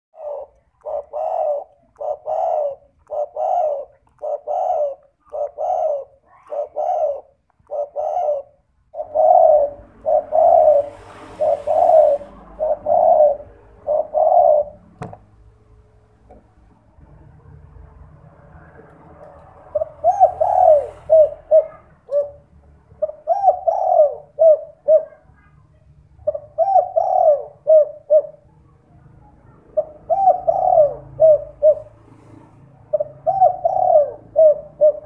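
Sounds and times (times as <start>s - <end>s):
dove cooing: 0.2s - 15.1s, 19.6s - 25.5s, 26.2s - 32.2s, 32.8s - 35.0s.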